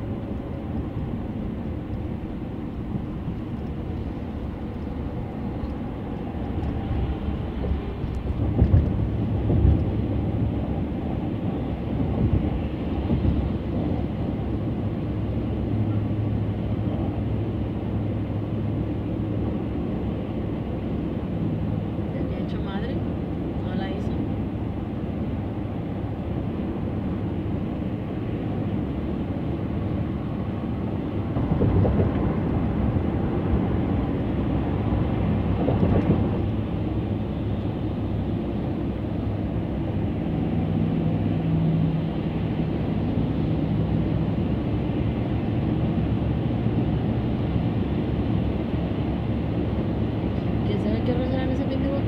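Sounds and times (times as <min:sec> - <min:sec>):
car engine hum: 0:00.0 - 0:52.0.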